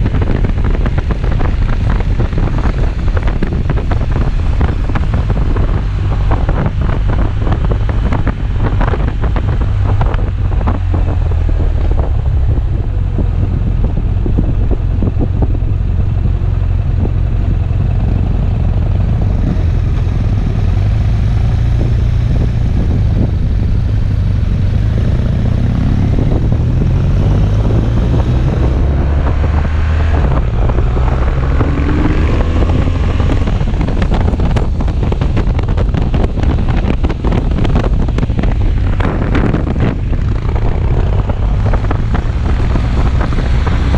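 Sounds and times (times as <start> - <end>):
motorcycle engine running: 0.0 - 43.9
wind buffeting microphone: 0.0 - 43.9.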